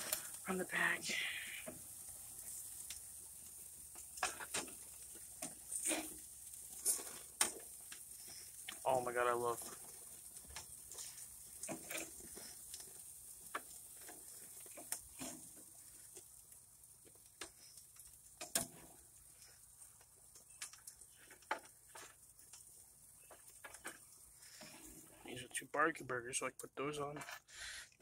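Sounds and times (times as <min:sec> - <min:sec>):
faint hiss from hot grill: 0:00.0 - 0:28.0
metal spatula scraping grill grate: 0:01.6 - 0:16.4, 0:17.1 - 0:25.4.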